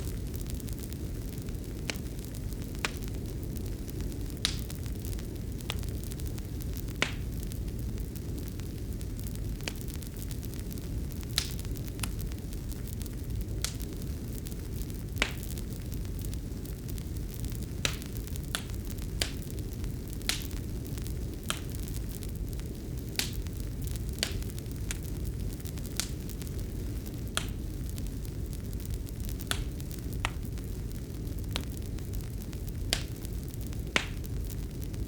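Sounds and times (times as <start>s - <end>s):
low fire rumble: 0.0s - 35.0s
wood fire crackling: 0.0s - 35.0s.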